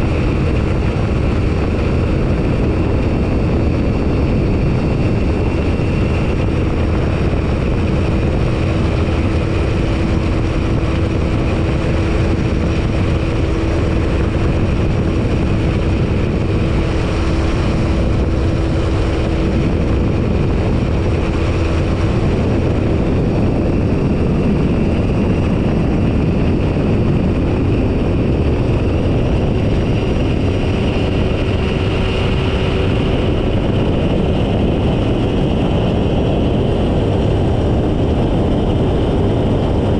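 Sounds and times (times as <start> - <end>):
airflow rush over microphone: 0.0 - 39.9
ultralight engine and propeller: 0.0 - 39.9.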